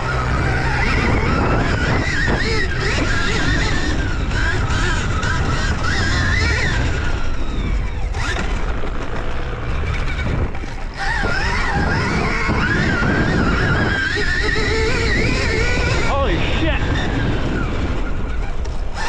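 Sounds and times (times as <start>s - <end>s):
vehicle running with whine: 0.0s - 19.0s.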